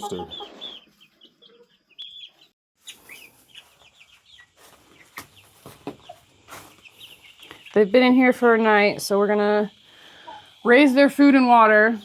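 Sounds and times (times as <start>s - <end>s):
chickens chirping and clucking: 0.0s - 12.0s.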